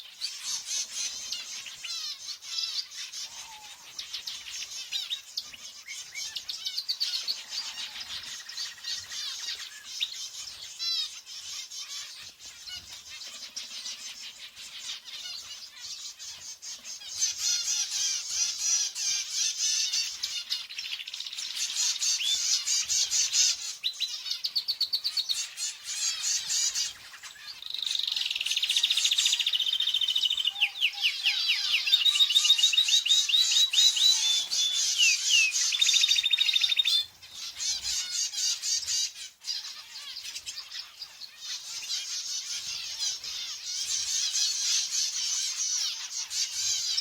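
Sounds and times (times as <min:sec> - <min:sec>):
pet birds chirping: 0:00.0 - 0:47.0
rapid bird trills: 0:00.0 - 0:47.0.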